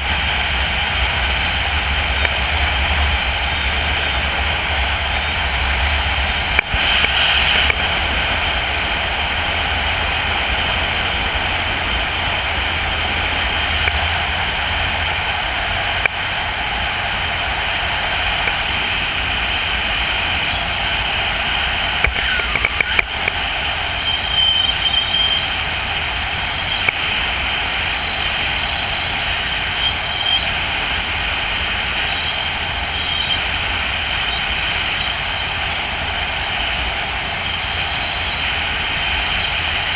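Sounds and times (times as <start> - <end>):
wind rushing over camera: 0.0 - 39.9.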